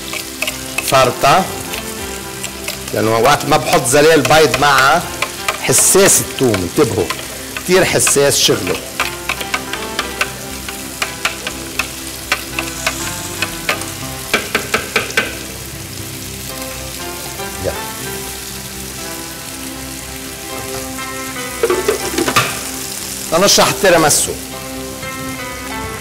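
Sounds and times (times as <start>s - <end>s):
steady sizzle: 0.0s - 26.0s.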